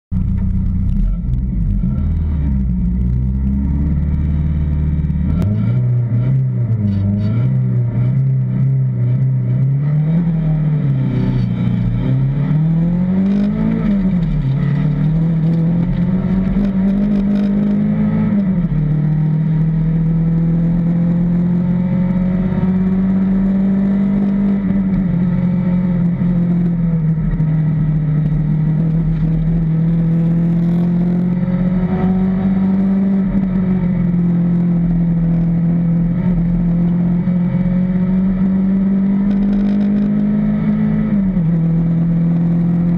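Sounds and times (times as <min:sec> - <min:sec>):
rally car engine accelerating: 0:00.1 - 0:42.9.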